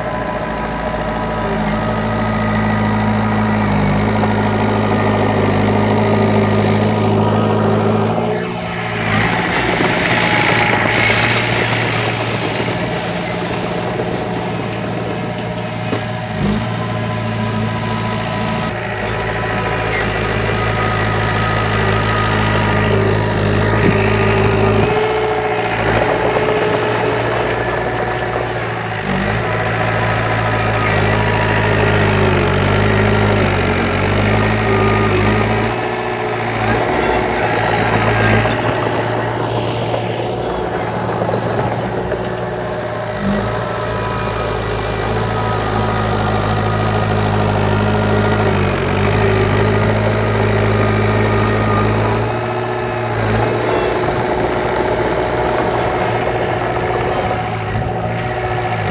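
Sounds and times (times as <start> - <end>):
earthmoving diesel engine at low revs: 0.0 - 58.9.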